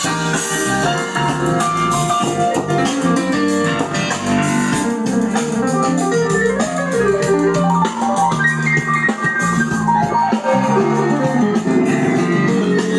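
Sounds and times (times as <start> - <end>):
music over pa system: 0.0 - 12.9.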